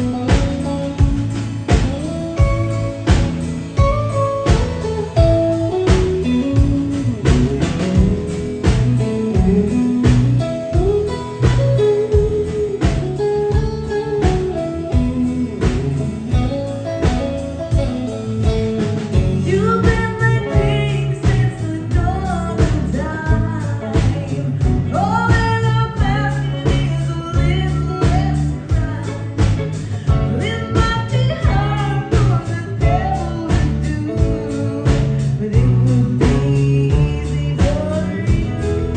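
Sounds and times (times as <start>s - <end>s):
country band playing slow song: 0.0s - 38.9s
woman singing: 0.0s - 38.9s.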